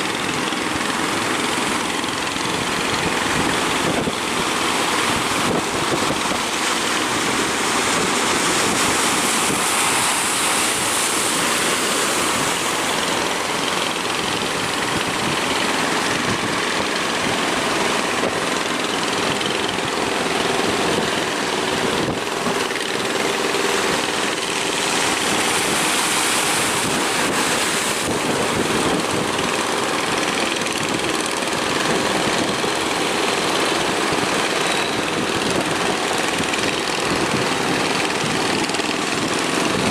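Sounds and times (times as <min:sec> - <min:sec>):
boat engine running: 0:00.0 - 0:39.9
surf rushing: 0:00.0 - 0:39.9
wind: 0:00.0 - 0:39.9.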